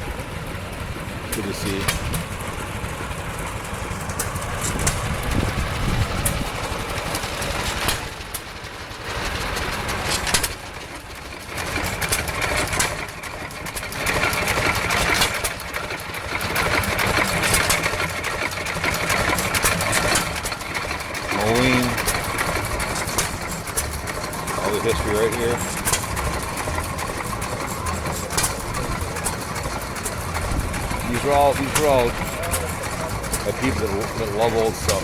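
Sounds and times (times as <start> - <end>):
engine idling with mechanical rattle: 0.0 - 35.0.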